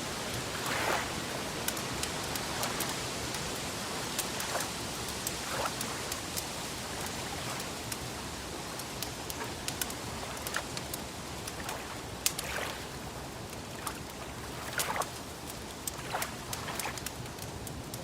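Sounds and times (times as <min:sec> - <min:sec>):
lake water lapping: 0:00.0 - 0:17.2
wood fire crackling: 0:00.0 - 0:18.0.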